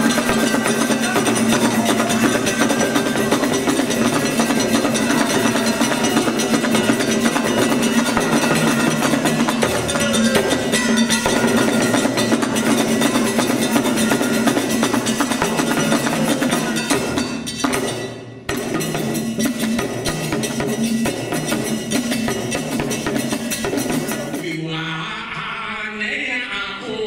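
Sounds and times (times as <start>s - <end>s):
hand drums playing fast rhythm: 0.0s - 24.6s.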